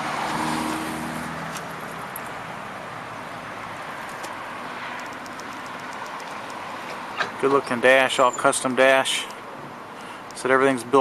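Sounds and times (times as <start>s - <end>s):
passing traffic engine hum: 0.0s - 11.0s
outdoor background hiss: 1.4s - 11.0s.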